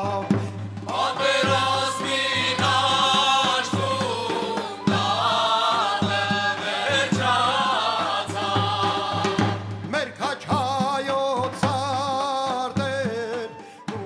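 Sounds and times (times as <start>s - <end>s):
man singing lead: 0.0s - 6.7s, 9.2s - 14.0s
chorus singing: 0.0s - 11.5s
steady drum beat: 0.0s - 14.0s.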